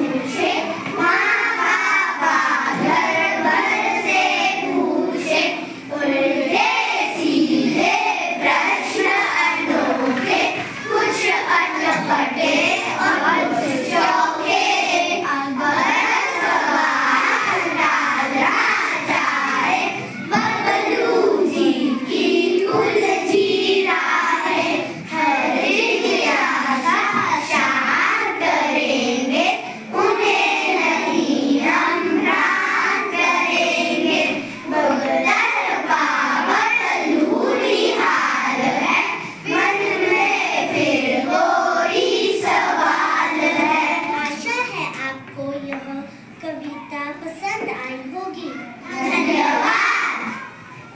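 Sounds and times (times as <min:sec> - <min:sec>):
children singing together: 0:00.0 - 0:45.3, 0:48.5 - 0:50.9.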